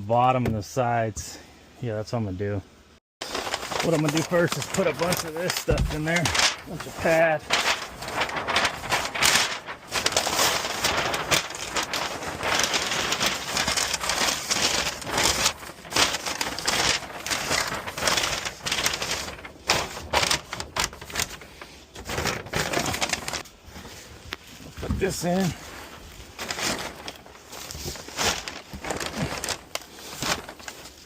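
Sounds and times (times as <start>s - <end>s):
packing material crinkling: 3.2s - 31.0s.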